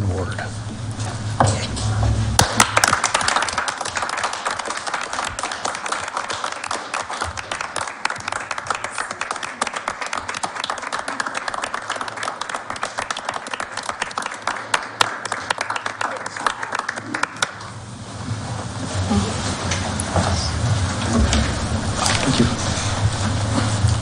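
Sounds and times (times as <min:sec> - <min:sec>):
crowd applauding: 0:02.3 - 0:17.9, 0:19.1 - 0:24.0.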